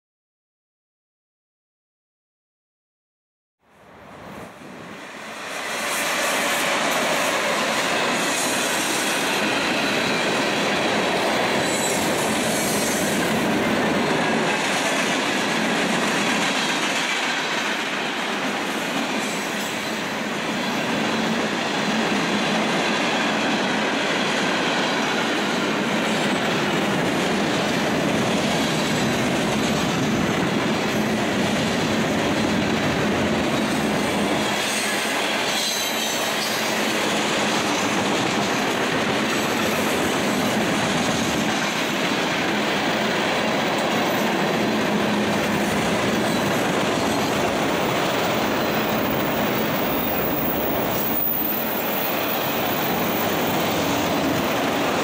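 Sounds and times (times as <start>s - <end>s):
freight train rolling past: 3.9s - 55.0s.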